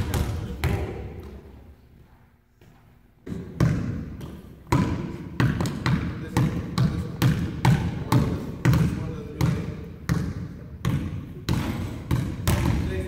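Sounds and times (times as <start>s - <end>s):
basketballs bouncing on wooden floor: 0.0s - 1.6s, 2.6s - 13.0s.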